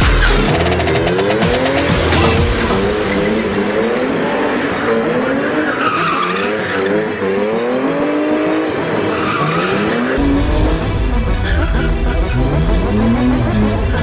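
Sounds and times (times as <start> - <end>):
car engine revving: 0.0 - 14.0
tyres squealing and skidding: 0.0 - 14.0.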